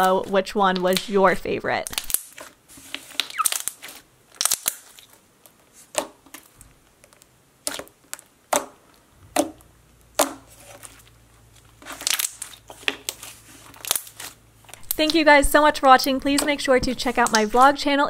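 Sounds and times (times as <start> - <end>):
slime popping and squelching: 0.0 - 15.2.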